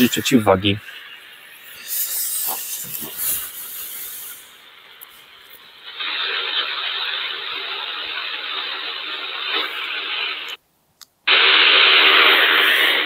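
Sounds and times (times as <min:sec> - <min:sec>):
radio static hiss: 0:00.0 - 0:10.6, 0:11.3 - 0:13.0.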